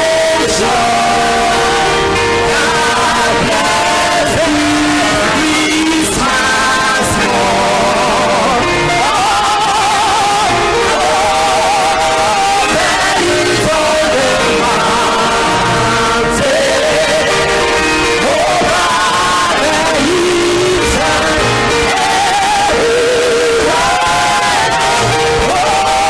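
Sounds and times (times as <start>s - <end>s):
church choir singing: 0.0s - 26.0s
instrumental accompaniment: 0.0s - 26.0s.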